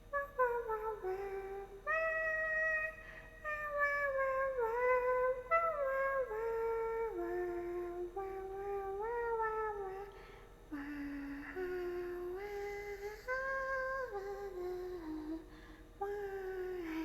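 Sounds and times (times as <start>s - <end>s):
woman humming: 0.0s - 17.0s.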